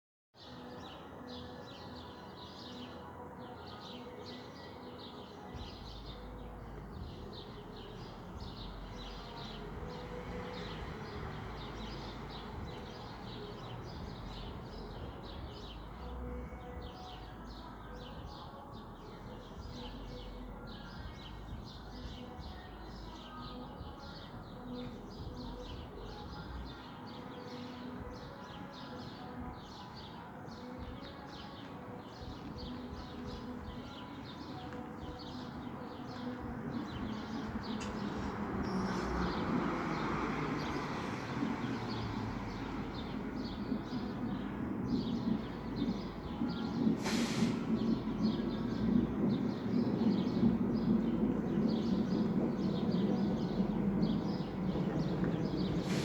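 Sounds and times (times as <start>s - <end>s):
distant amplified music beat: 4.6s - 56.0s
traffic rumble: 5.4s - 27.0s, 31.8s - 56.0s.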